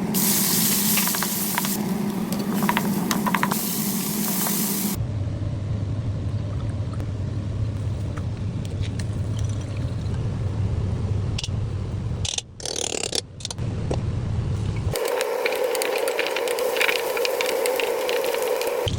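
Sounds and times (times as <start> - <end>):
low kitchen rumble: 0.0 - 12.2, 14.0 - 18.9.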